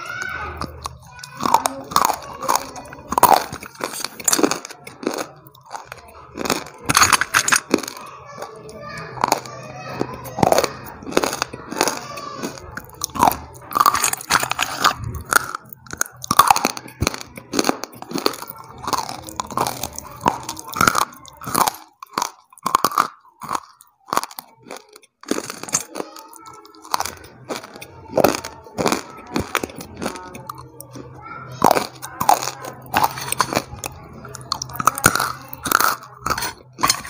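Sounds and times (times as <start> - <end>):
person crunching food: 0.0 - 37.0.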